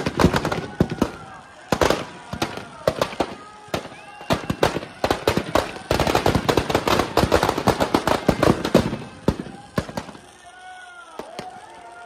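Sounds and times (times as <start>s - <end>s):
firecrackers going off: 0.0s - 12.0s.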